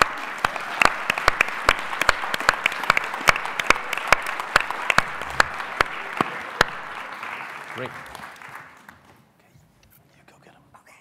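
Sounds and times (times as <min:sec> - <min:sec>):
sharp nearby claps: 0:00.0 - 0:09.2
audience applauding: 0:00.0 - 0:09.3.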